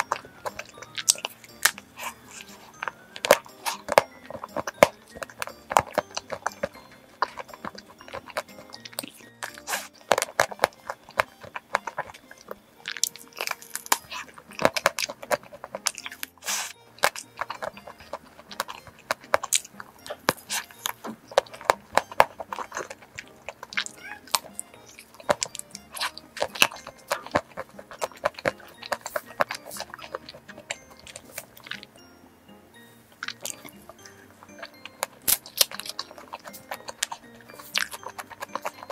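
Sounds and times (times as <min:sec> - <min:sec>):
crunchy biting and chewing: 0:00.0 - 0:32.1, 0:32.8 - 0:38.9
soft background music: 0:00.0 - 0:38.9.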